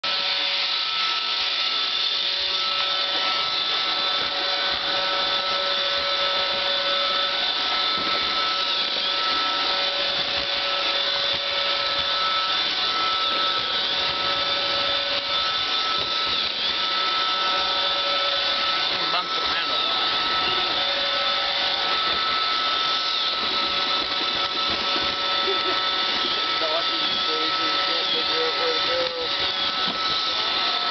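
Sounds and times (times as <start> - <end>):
robot vacuum motor whine: 0.0 - 30.9.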